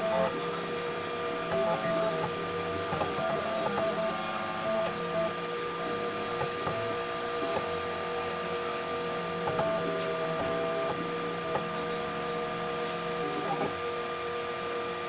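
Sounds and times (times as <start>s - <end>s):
stepper motors whining: 0.0s - 14.3s.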